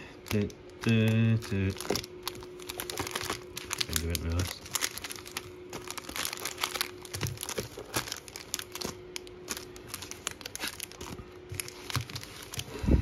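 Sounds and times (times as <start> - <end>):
foil card packs crinkling: 0.0 - 12.8.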